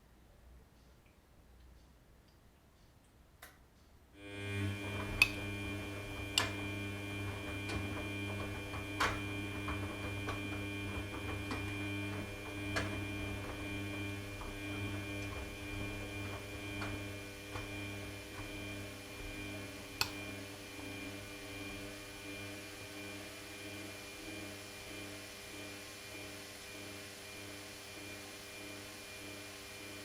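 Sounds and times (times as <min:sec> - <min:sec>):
washing machine motor humming: 0:04.2 - 0:30.0.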